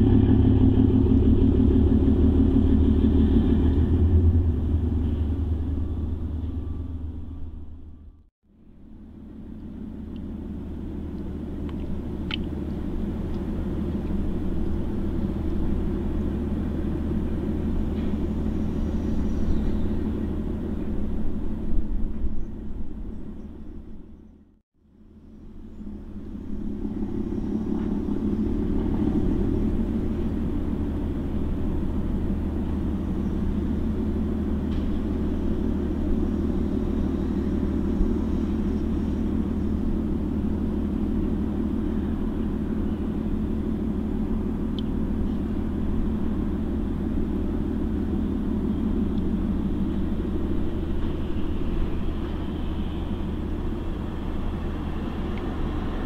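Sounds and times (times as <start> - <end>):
ship engine rumble: 0.0 - 56.0.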